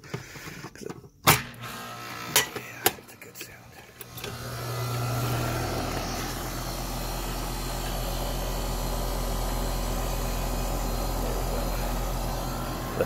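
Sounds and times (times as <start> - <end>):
air conditioner compressor humming: 1.3 - 13.0.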